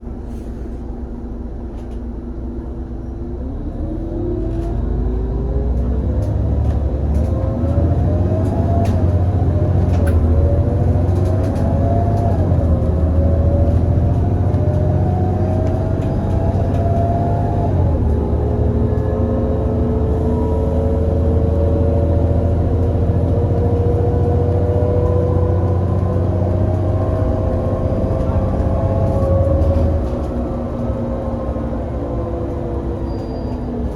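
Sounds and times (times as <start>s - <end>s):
bus engine accelerating: 0.0s - 33.9s.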